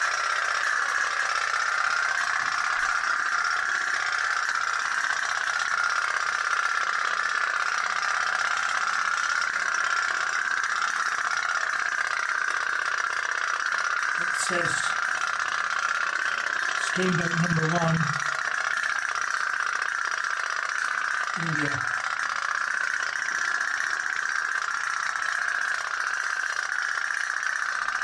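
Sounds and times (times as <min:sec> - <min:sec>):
pop-pop boat rattling putter: 0:00.0 - 0:28.0.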